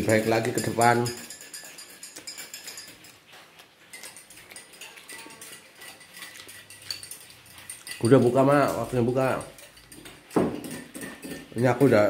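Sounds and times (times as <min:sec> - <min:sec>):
spoon clinking in a glass: 0:00.0 - 0:03.2, 0:03.9 - 0:12.0.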